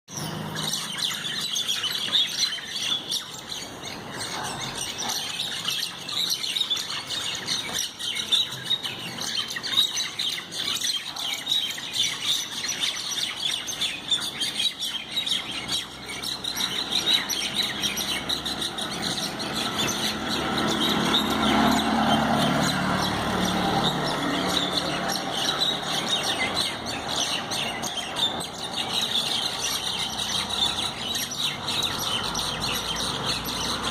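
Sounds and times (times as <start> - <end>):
mynas chirping: 0.1 - 33.9.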